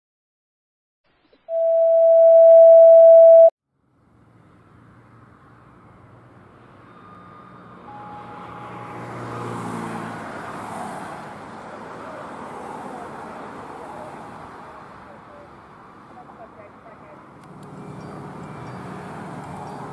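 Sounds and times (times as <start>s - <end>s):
street traffic: 3.7s - 19.9s.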